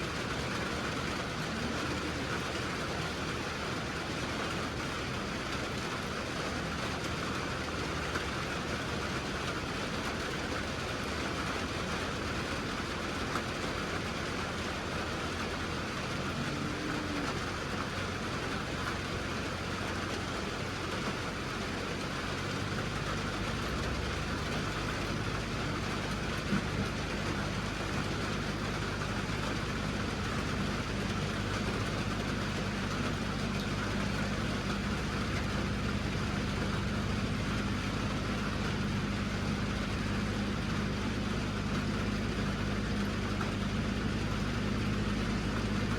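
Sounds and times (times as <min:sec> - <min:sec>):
constant hiss: 0:00.0 - 0:45.9
deep engine hum: 0:00.0 - 0:45.9
vehicle engine running: 0:00.0 - 0:45.9.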